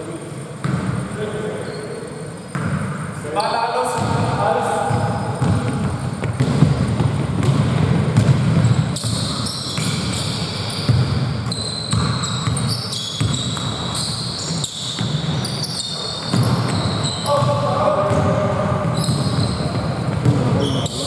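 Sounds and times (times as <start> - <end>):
shoe squeaks on court: 0.4 - 6.5, 8.6 - 18.2, 18.8 - 21.0
basketball bouncing: 2.5 - 3.0, 4.0 - 21.0.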